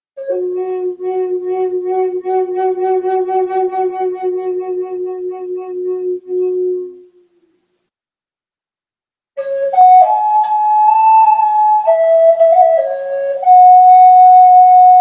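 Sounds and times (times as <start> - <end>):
wooden flute low note: 0.2 - 7.5, 9.4 - 15.0.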